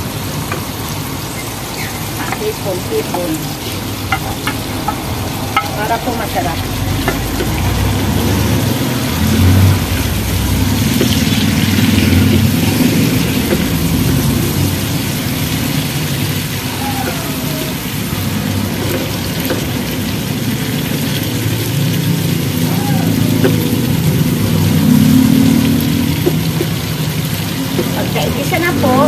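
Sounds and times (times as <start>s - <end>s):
engine humming: 0.0s - 29.0s
food sizzling in frying pan: 0.0s - 29.0s.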